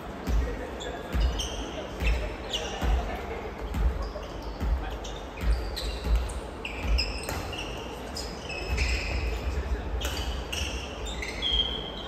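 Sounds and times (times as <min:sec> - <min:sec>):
sneakers squeaking on wooden floor: 0:00.2 - 0:12.0.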